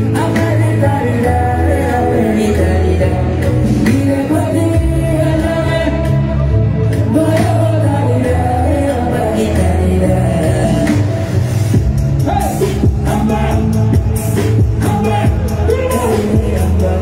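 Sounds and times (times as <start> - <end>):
man singing into a microphone: 0.0 - 11.5, 12.2 - 17.0
amplified backing music with bass: 0.0 - 17.0.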